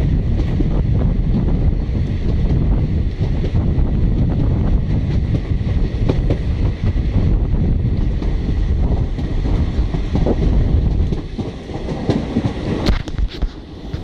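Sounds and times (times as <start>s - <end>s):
train wheels rumbling on rails: 0.0s - 14.0s
wind buffeting microphone: 0.0s - 14.0s.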